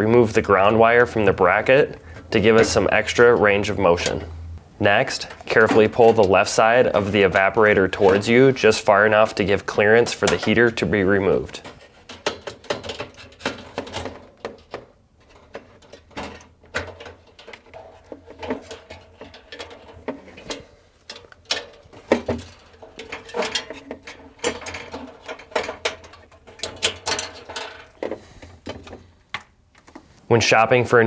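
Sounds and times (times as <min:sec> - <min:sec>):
metal parts clicking and rattling: 0:00.6 - 0:04.4, 0:05.1 - 0:29.1.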